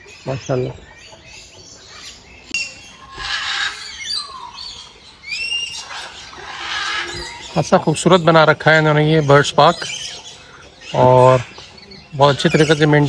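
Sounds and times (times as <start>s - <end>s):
parrots calling: 0.0s - 13.0s.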